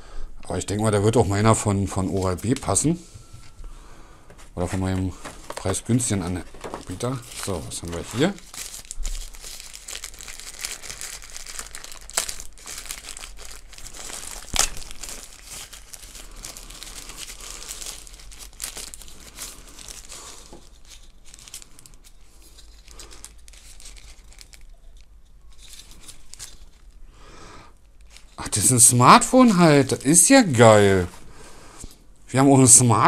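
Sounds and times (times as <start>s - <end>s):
wrapping crinkling and rustling: 1.3s - 3.6s, 4.3s - 31.5s.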